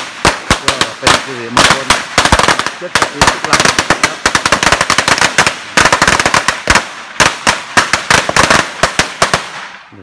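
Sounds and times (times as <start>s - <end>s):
firecrackers banging: 0.0s - 10.0s.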